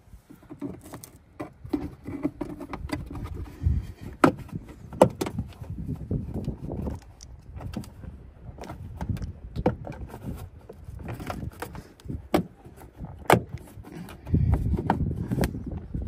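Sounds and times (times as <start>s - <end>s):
rubbing and handling noise: 0.0s - 16.0s.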